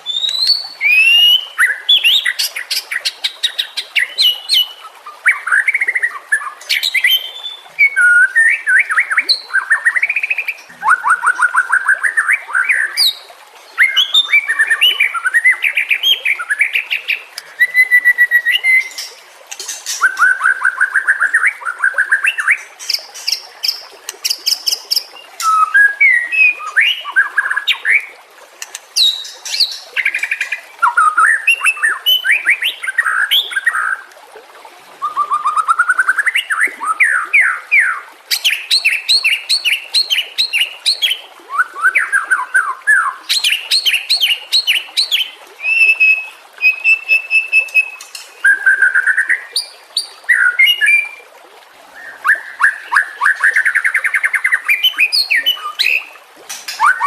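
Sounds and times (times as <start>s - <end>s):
bird singing varied song: 0.0s - 34.0s, 35.0s - 51.2s, 52.0s - 57.0s.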